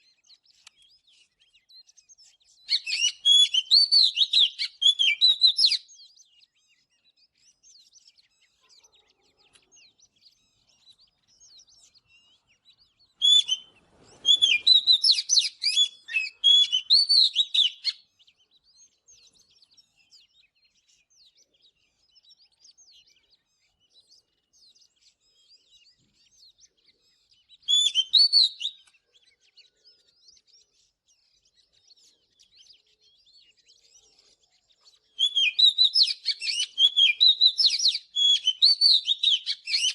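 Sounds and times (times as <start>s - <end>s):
bird singing varied phrases: 0.0s - 39.9s
faint bird chirps: 0.0s - 39.9s.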